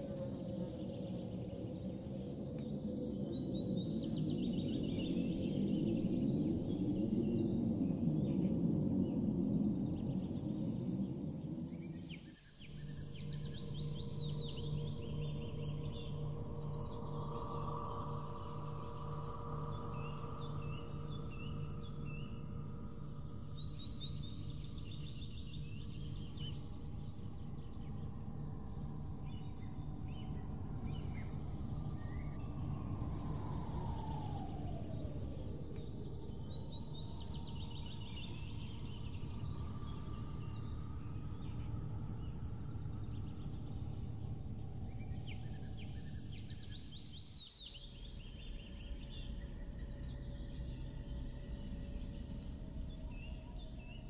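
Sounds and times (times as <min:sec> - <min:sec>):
low ambient drone: 0:00.0 - 0:54.0.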